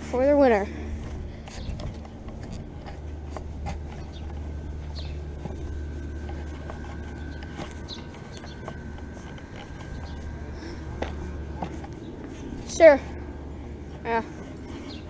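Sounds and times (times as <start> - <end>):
compressor and fan hum: 0.0 - 15.0
thin high whine: 0.0 - 15.0.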